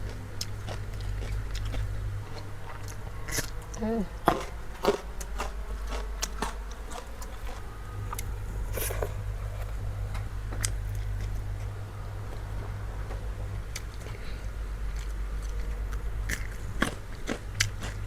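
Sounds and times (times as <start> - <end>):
chewing: 0.0 - 11.8, 13.7 - 18.0
steady low hum: 0.0 - 18.0.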